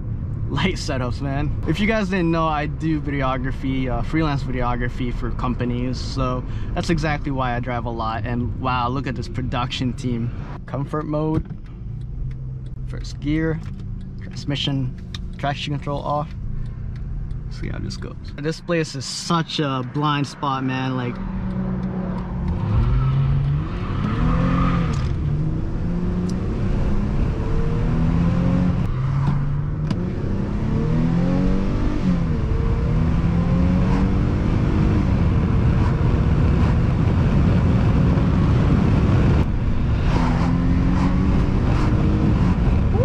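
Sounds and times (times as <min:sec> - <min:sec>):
car engine accelerating: 0:00.3 - 0:43.0.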